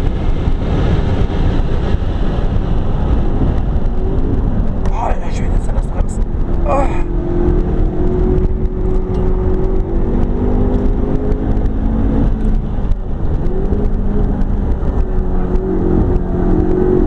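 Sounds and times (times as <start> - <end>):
car engine from inside cabin: 0.1 - 17.0.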